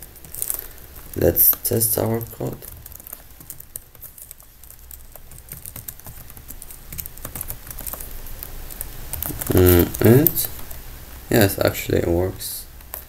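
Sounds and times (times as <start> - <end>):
keyboard typing: 0.0 - 10.8.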